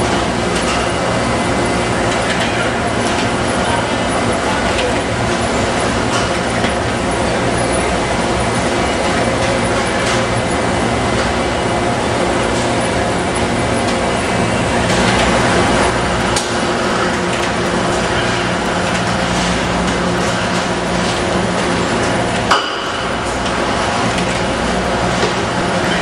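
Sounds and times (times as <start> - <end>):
production line machinery: 0.0 - 26.0.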